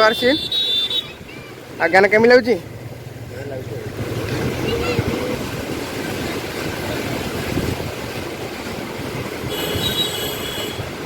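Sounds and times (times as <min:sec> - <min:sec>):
water roaring through barrage: 0:00.0 - 0:11.0.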